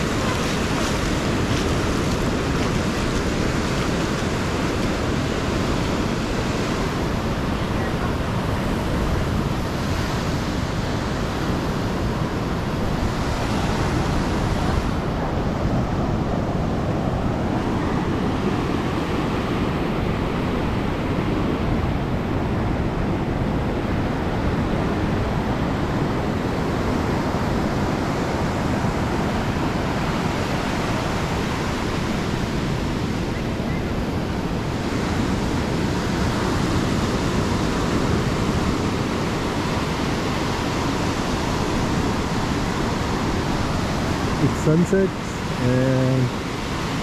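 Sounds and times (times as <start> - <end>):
ocean surf washing on beach: 0.0 - 47.0
wind on microphone: 0.0 - 47.0.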